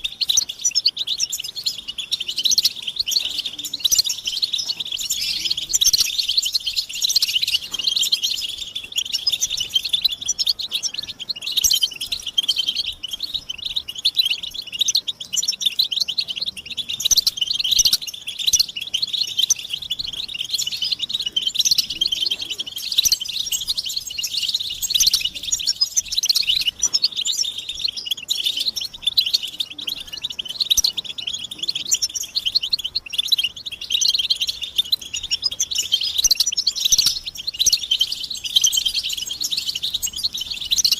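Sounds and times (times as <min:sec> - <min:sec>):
goldfinches chattering and twittering: 0:00.0 - 0:40.9.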